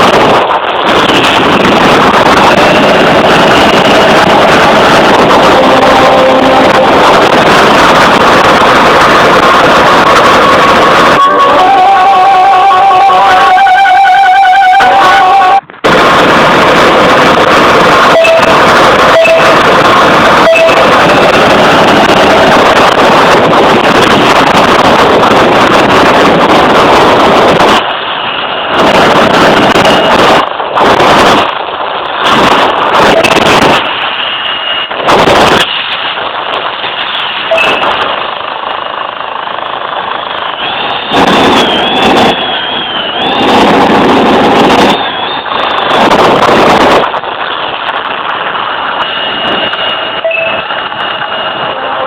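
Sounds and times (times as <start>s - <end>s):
fighter jet engine roaring: 0.0s - 52.0s.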